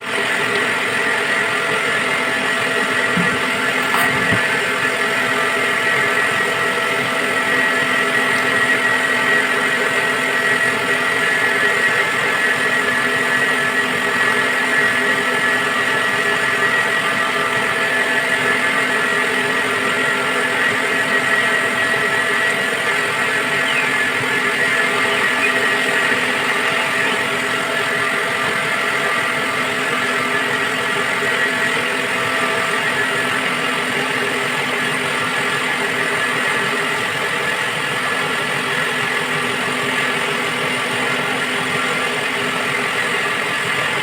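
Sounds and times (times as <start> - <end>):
motor humming with high whine: 0.0 - 44.0.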